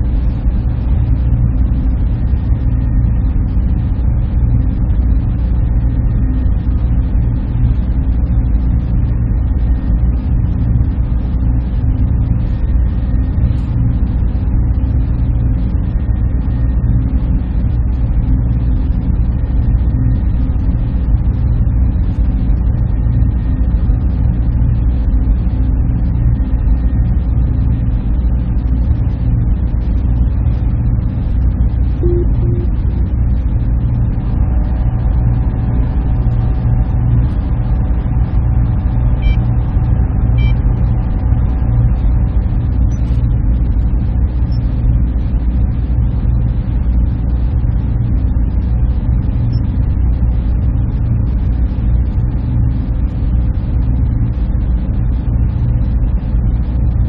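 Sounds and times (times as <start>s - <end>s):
constant hum tones: 0.0s - 57.0s
fans droning: 0.0s - 57.0s.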